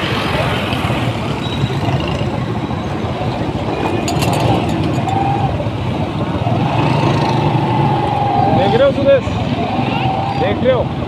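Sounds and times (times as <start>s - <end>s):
motorcycle engine rumble: 0.0s - 10.3s
other motorbikes nearby: 0.0s - 11.0s
wind: 0.0s - 11.0s.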